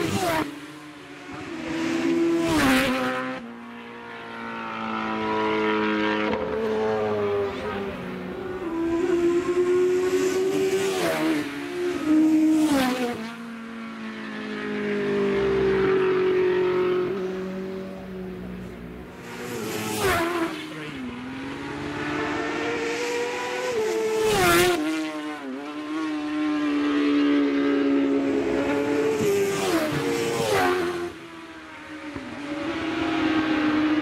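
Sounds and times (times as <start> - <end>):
racing motorcycles passing: 0.0 - 34.0.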